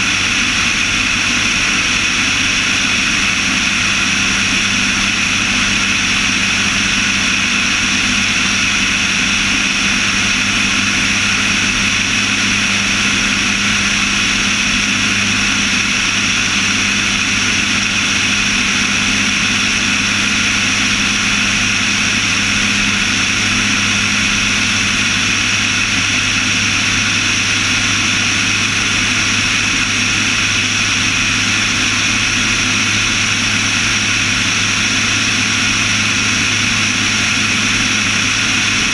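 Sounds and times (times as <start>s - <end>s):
propeller aircraft droning: 0.0s - 38.9s.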